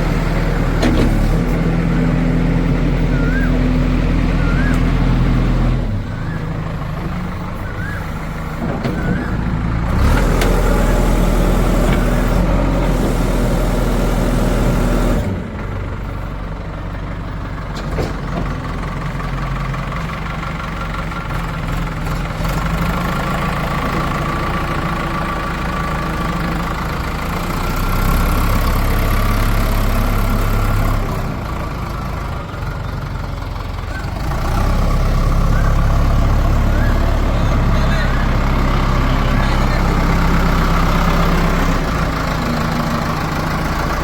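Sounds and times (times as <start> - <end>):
diesel engines running: 0.0 - 44.0.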